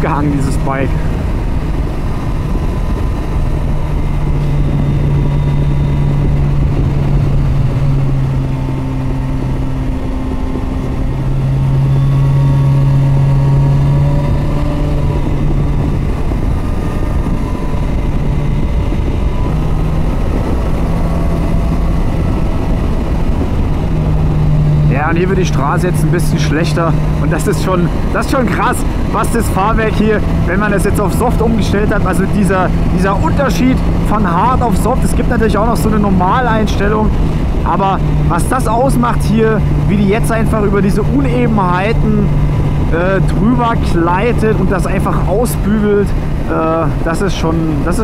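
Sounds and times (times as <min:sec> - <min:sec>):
motorcycle engine cruising: 0:00.0 - 0:48.0
wind and road rush: 0:00.0 - 0:48.0.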